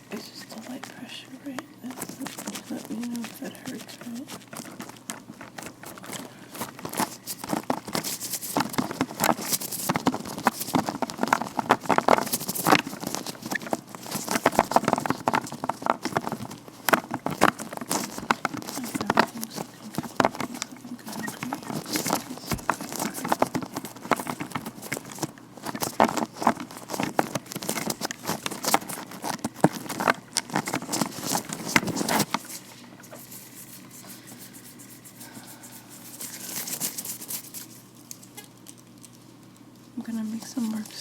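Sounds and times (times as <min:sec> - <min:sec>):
soft rubbing: 0:00.0 - 0:38.9
gloved hands crinkling: 0:00.0 - 0:41.0.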